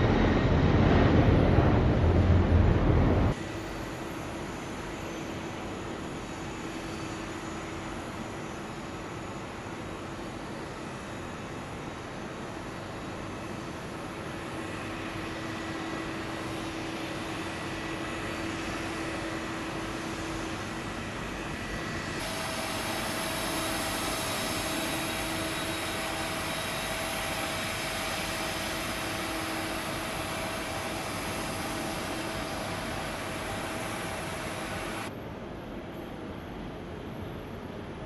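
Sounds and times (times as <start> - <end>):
thin steady engine whine: 0.0 - 35.3
jet engines running: 0.0 - 38.0.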